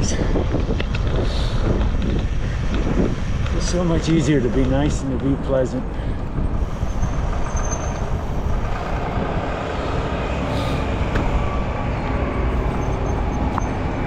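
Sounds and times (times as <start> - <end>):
rumbling wind: 0.0 - 14.0
traffic noise: 0.0 - 14.0.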